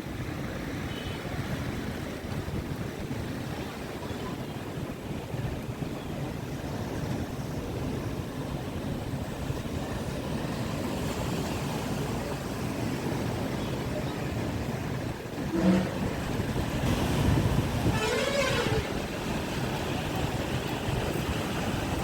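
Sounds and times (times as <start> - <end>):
ocean surf: 0.0 - 22.0
wind buffeting microphone: 1.4 - 22.0.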